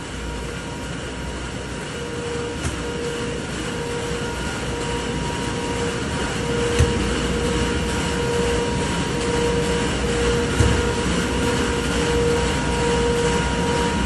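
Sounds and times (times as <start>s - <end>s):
shop machinery humming: 0.0s - 14.0s.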